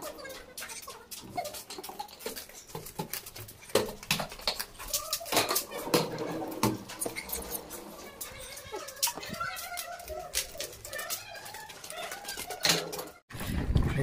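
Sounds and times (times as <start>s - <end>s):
footsteps: 0.0s - 14.0s.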